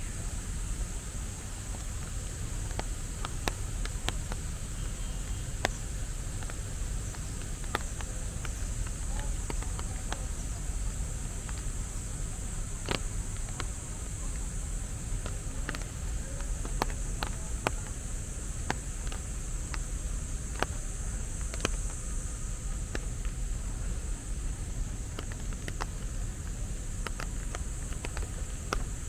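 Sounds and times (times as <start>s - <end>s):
insects buzzing: 0.0s - 29.0s
low city rumble: 0.0s - 29.0s
sharp clicks: 1.2s - 29.0s.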